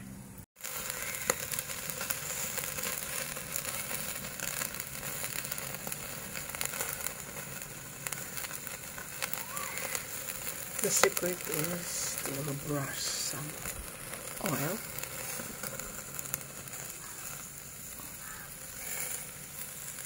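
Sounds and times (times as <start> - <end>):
fat popping in flames: 0.6 - 20.0
meat sizzling on a grill: 0.6 - 20.0.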